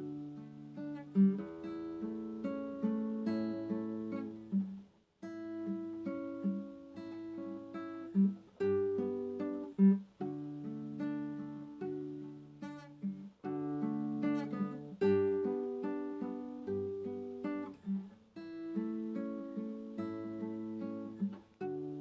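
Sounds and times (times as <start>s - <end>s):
acoustic guitar played slowly: 0.0s - 22.0s.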